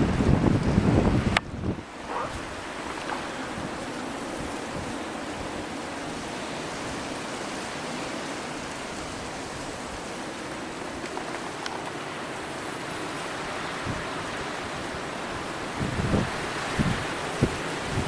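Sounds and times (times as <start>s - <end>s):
blizzard wind rushing: 0.0s - 11.3s, 12.0s - 18.0s.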